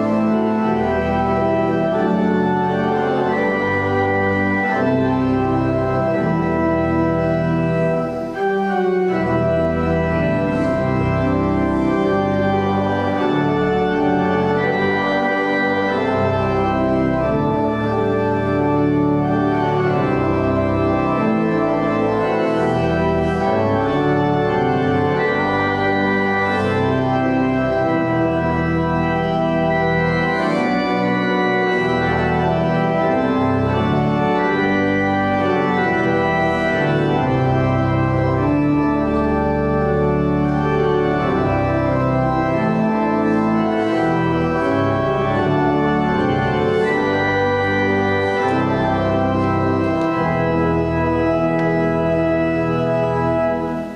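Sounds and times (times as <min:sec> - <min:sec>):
church organ chords: 0:00.0 - 0:53.9.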